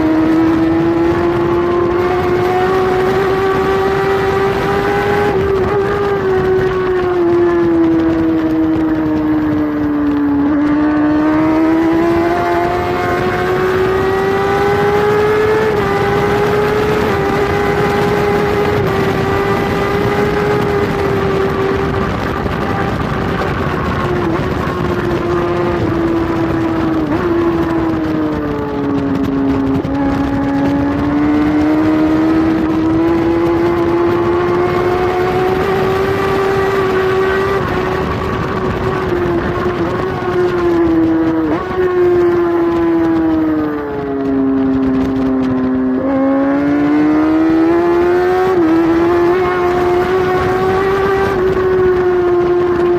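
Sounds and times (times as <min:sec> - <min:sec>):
motorcycle engine at high revs: 0:00.0 - 0:52.9.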